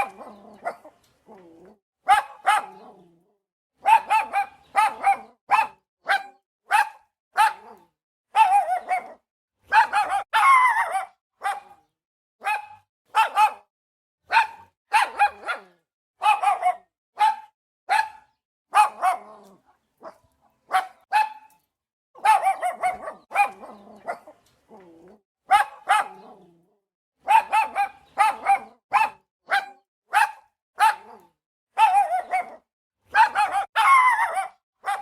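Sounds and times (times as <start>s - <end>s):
dog barking: 0.0s - 1.0s, 2.0s - 3.0s, 3.8s - 21.6s, 22.2s - 24.4s, 25.5s - 26.5s, 27.2s - 35.0s.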